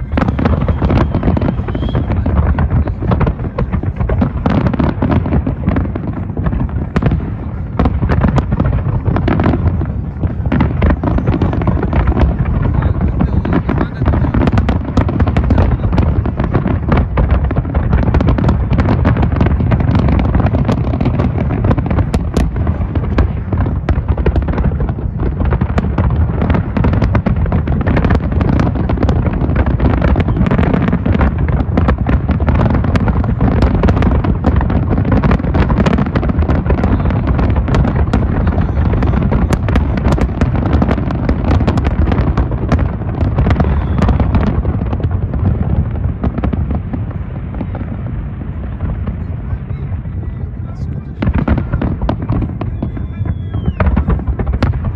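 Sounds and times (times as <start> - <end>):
fireworks booming: 0.0 - 54.9.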